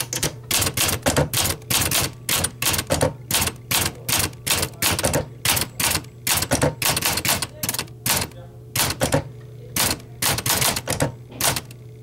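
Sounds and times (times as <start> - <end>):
typewriter keys clacking: 0.0 - 9.2, 9.8 - 11.8.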